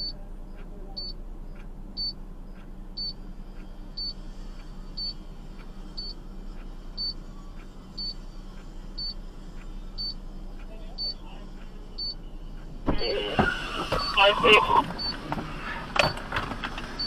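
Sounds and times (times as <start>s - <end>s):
high-pitched electronic warning beep: 0.0s - 1.2s, 2.0s - 15.2s
low hum inside car: 0.0s - 17.0s.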